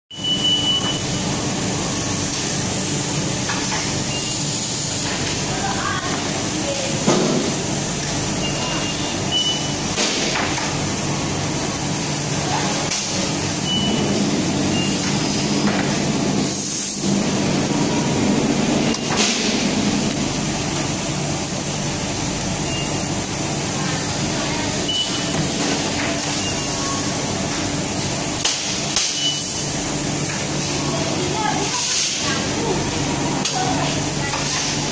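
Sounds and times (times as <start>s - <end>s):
machine hum and hiss: 0.1s - 34.9s.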